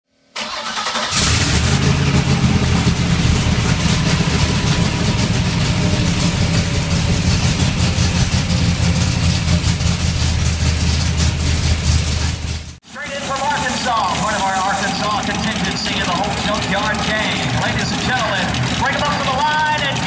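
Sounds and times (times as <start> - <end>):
race engine running: 0.4 - 20.0.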